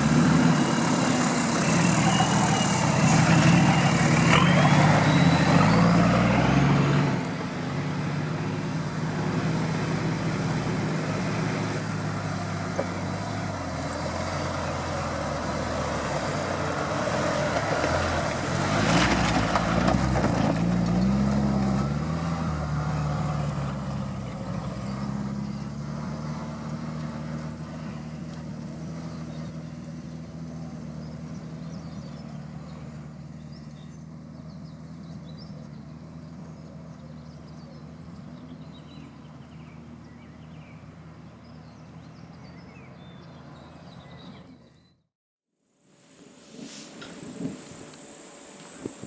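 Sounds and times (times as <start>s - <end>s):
off-road vehicle engine running: 0.0s - 45.0s.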